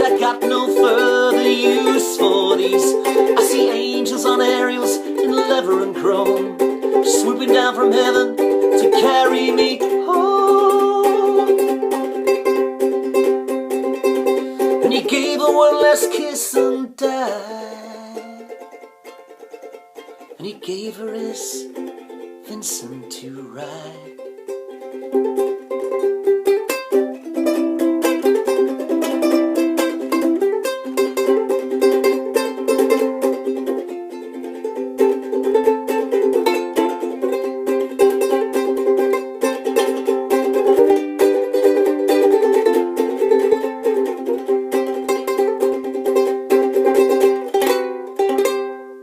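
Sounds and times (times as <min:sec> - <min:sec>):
solo ukulele playing: 0:00.0 - 0:49.0.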